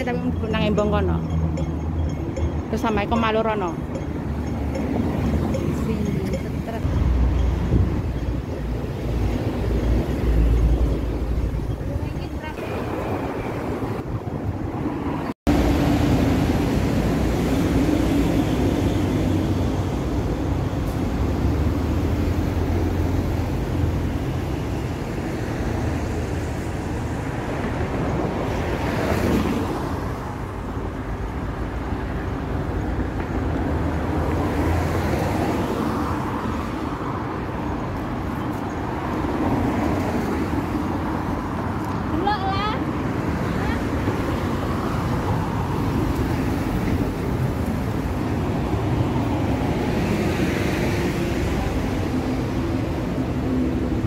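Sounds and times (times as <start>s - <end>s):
road traffic rumbling: 0.0s - 54.0s.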